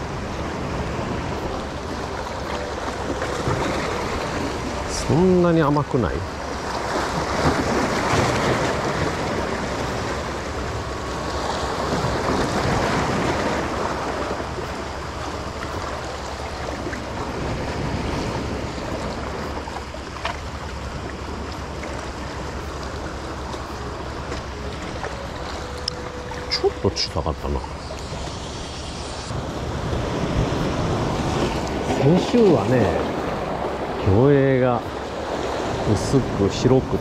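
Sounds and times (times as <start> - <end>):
waves splashing against rocks: 0.0 - 37.0.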